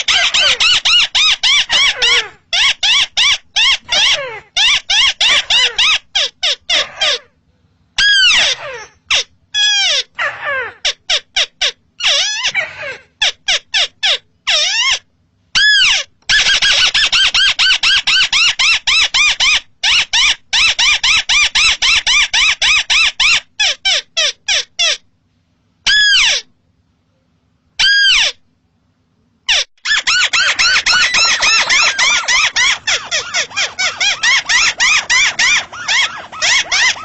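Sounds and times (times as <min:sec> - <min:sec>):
crake calling with squeaky notes: 0:00.0 - 0:07.4, 0:08.0 - 0:25.1, 0:25.9 - 0:26.5, 0:27.8 - 0:28.5, 0:29.5 - 0:37.0.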